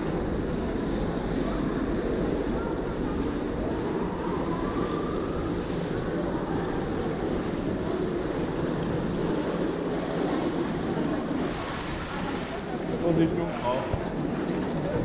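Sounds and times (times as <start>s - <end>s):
faint distant voices: 0.0s - 15.0s
swimming pool hall din: 0.0s - 15.0s.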